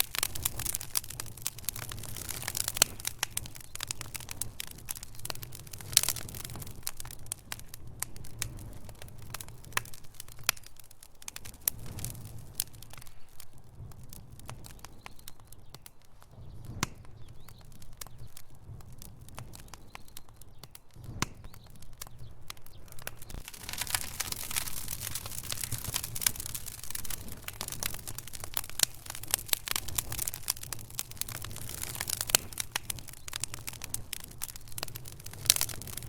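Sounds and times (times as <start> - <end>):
burning logs popping and snapping: 0.0 - 36.0
low rumble of flame: 0.0 - 36.0.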